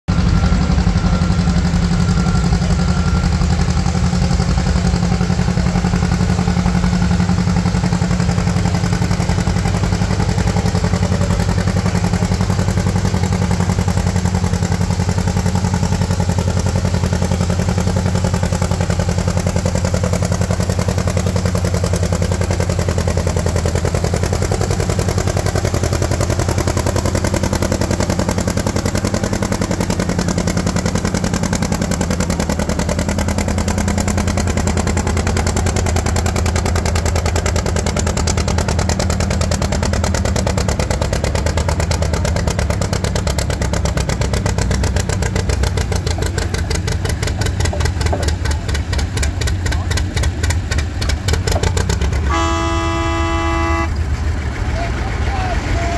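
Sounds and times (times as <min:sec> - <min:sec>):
tractor engine pulsing: 0:00.1 - 0:55.9.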